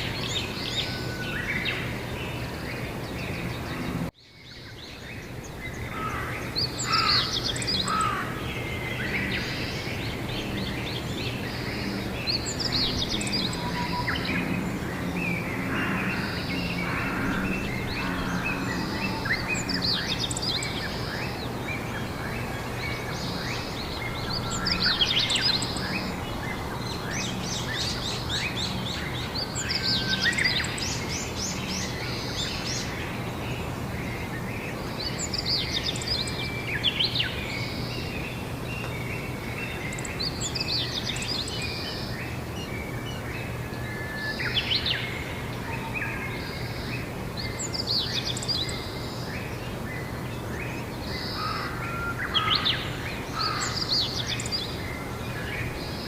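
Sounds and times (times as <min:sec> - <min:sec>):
songbirds twittering: 0:00.0 - 0:56.0.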